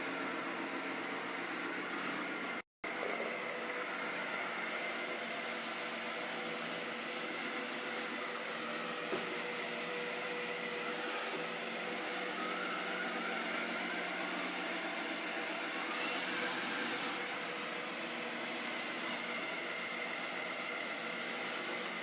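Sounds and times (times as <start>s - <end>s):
robot vacuum whirring: 0.1s - 22.0s.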